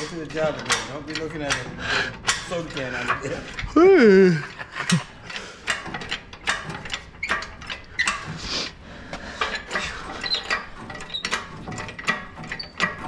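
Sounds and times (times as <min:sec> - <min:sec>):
metal chains clicking and clanking: 0:00.0 - 0:13.0.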